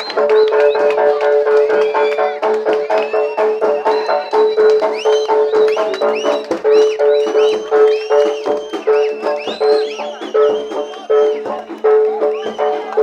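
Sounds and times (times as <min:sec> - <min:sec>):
fast drum strokes: 0:00.0 - 0:13.0.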